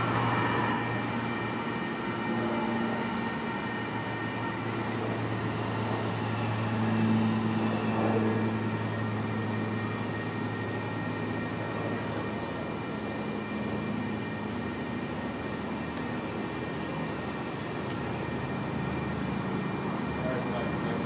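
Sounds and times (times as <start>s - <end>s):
light-rail train pulling away: 0.0s - 21.0s.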